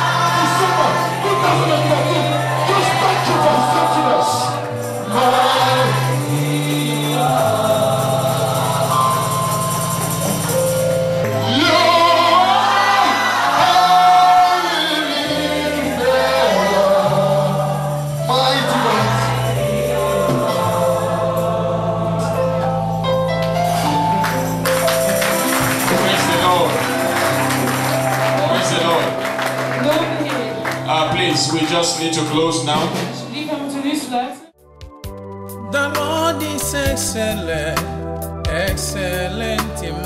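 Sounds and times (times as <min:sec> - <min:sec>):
gospel voices singing: 0:00.0 - 0:33.3, 0:35.6 - 0:40.0
keyboard: 0:00.0 - 0:40.0.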